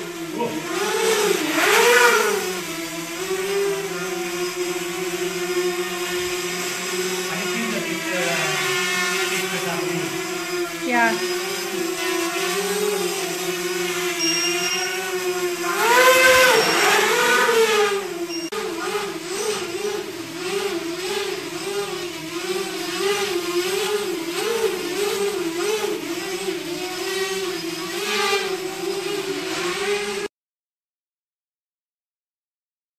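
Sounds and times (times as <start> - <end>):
drone motors whining: 0.0 - 30.3.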